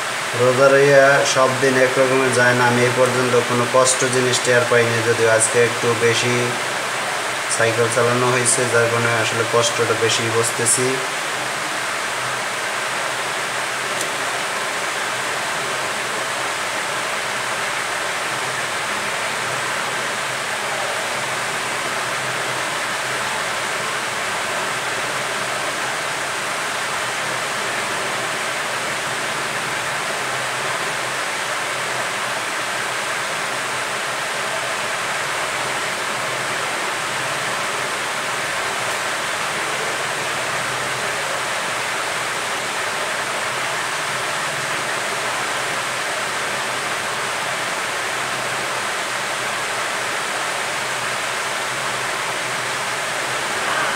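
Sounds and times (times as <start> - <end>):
faint high whine: 0.0 - 53.9.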